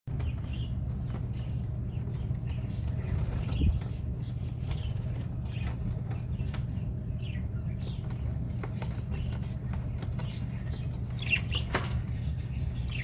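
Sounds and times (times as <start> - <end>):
budgerigars chirping: 0.1 - 13.0
steady low rumble: 0.1 - 13.0.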